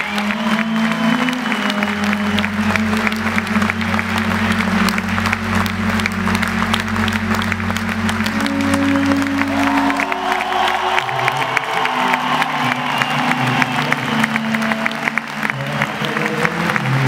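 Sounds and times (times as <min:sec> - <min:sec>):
crowd clapping: 0:00.0 - 0:17.0
music with long held notes: 0:00.0 - 0:17.0.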